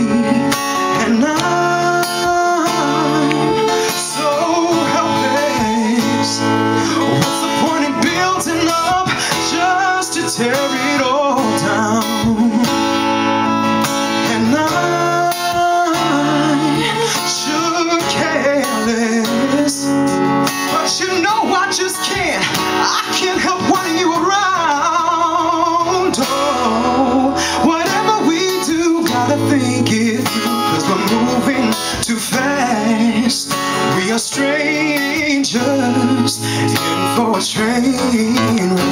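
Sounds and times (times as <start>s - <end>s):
man singing: 0.0s - 38.9s
strummed acoustic guitar: 0.0s - 38.9s.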